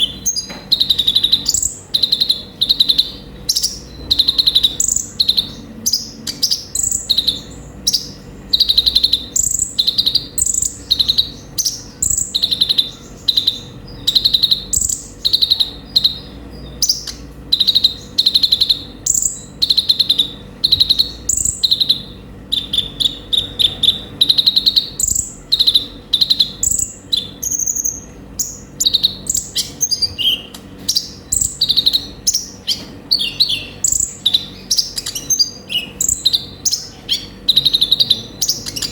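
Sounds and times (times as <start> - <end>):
bird singing rapid chirps and trills: 0.0 - 38.9.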